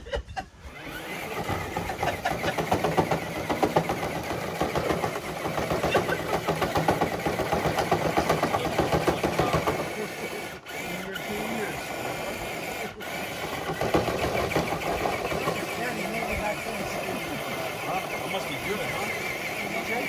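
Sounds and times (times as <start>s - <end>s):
toy truck motor running under load: 0.4s - 20.0s.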